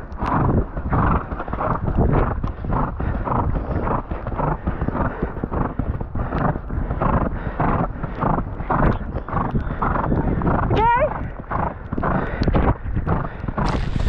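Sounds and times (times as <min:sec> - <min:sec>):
horse breathing loudly: 0:00.0 - 0:14.0
horse hoofbeats on wet grass: 0:00.0 - 0:14.0.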